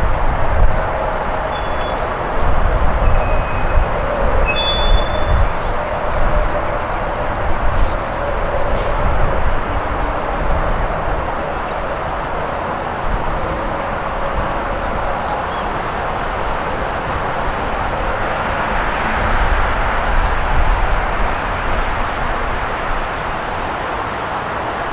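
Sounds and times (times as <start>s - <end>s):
train rolling past: 0.0s - 24.9s.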